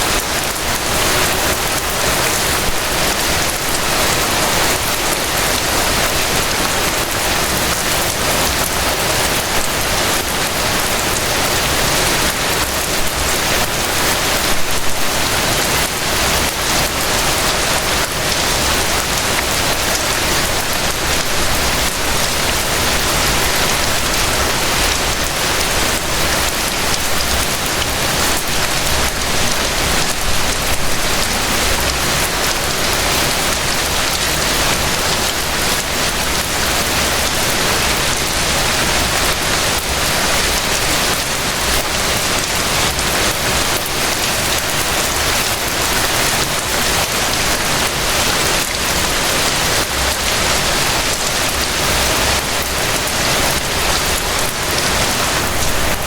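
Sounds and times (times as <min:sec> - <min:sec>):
rain falling on surfaces: 0:00.0 - 0:56.0.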